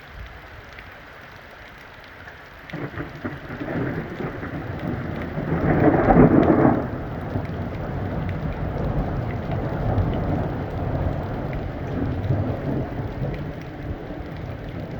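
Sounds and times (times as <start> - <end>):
steady rain: 0.0 - 14.9
thunder rumbling: 2.7 - 14.9.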